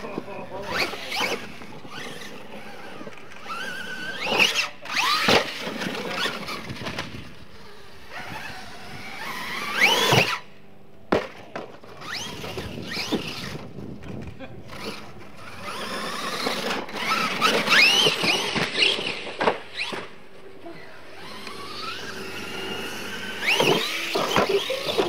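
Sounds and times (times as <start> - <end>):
tyres scrabbling on dirt: 0.0 - 7.5, 11.6 - 25.0
toy truck motor whining: 0.0 - 10.6, 11.9 - 14.0, 14.6 - 25.0.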